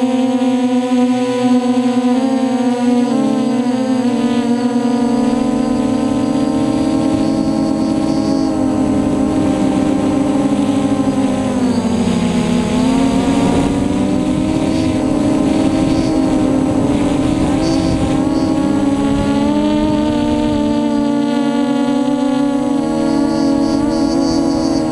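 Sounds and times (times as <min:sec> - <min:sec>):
drone propellers whining: 0:00.0 - 0:24.9.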